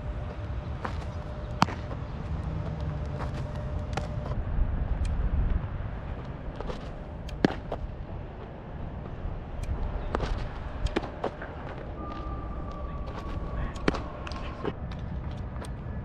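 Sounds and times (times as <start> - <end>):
wind on microphone: 1.3 - 16.0.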